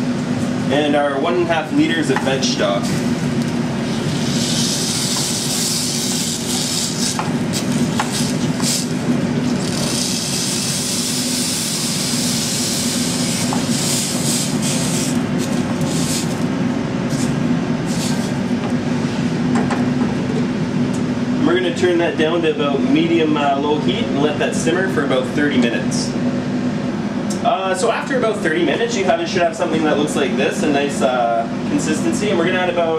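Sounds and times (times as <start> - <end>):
low kitchen hum: 0.0 - 32.9.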